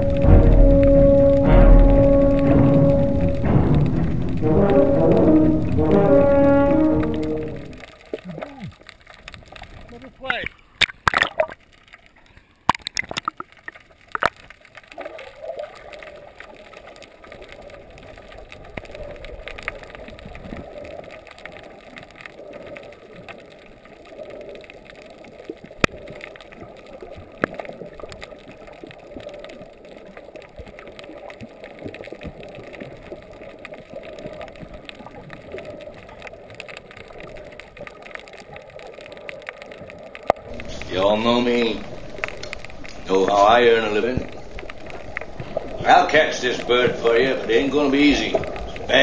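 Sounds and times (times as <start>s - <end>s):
underwater gurgling and bubbling: 0.0s - 11.6s, 12.7s - 49.0s
water splashes: 0.0s - 49.0s.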